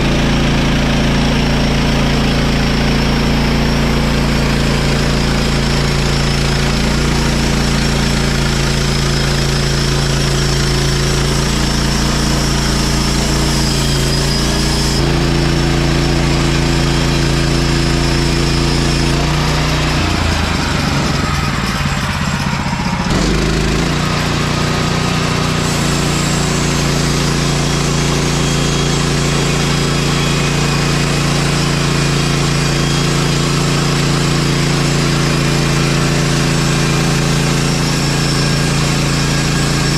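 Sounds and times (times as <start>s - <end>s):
band saw cutting log: 0.0s - 39.9s
gasoline engine running: 0.0s - 39.9s.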